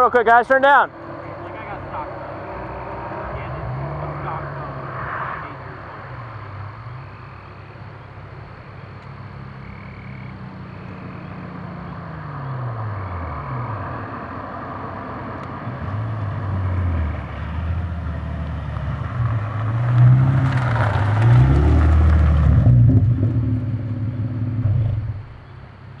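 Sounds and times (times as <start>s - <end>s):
sports car exhaust accelerating: 0.6s - 25.9s.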